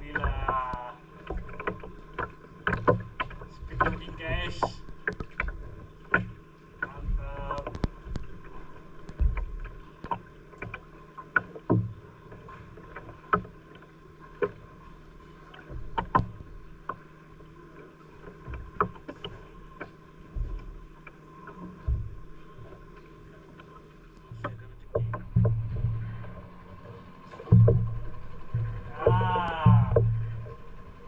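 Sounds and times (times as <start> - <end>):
faint engine drone: 0.0 - 31.0
water slapping against boat hull: 0.0 - 31.0.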